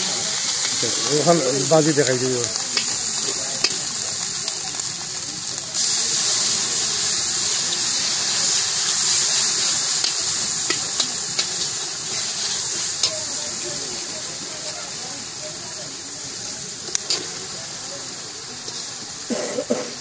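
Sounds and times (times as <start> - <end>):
battered food sizzling in hot oil: 0.0 - 20.0.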